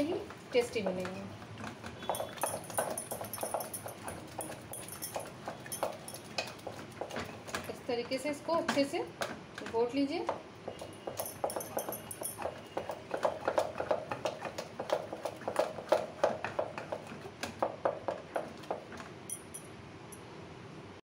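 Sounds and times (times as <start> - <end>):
wooden spoon knocking in a pot: 0.0 - 19.4.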